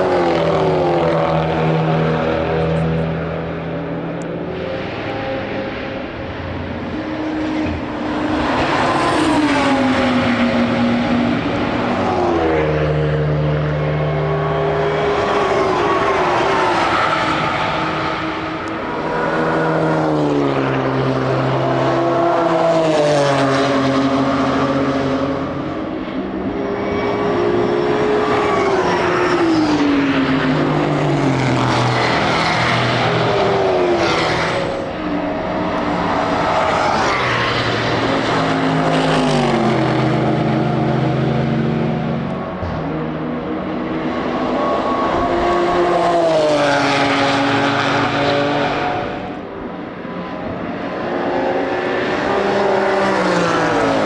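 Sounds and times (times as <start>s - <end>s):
racing cars passing at speed: 0.0s - 54.0s.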